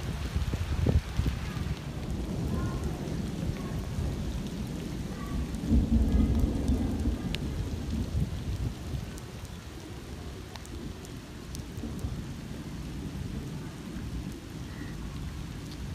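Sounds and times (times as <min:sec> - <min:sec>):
low rumble of thunder: 0:00.0 - 0:15.9
rain drop ticks: 0:00.0 - 0:15.9
rain falling on wet ground: 0:00.0 - 0:15.9.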